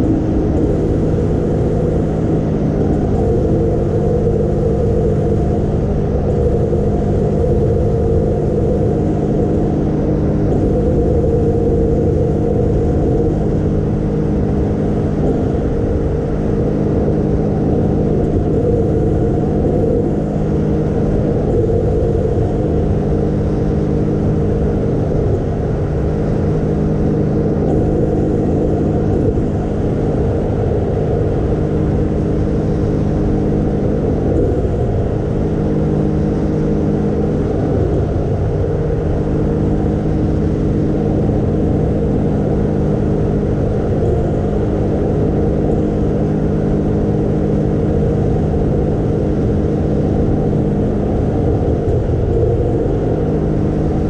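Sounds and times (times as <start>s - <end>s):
watercraft engine drone: 0.0s - 54.0s.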